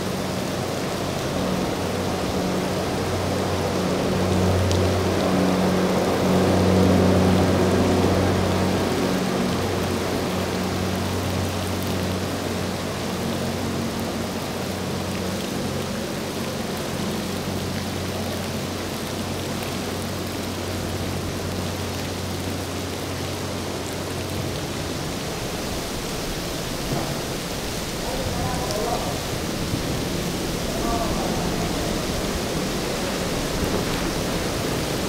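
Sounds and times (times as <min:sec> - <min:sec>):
boat engine drone: 0:00.0 - 0:35.0
heavy rain hissing: 0:00.0 - 0:35.0.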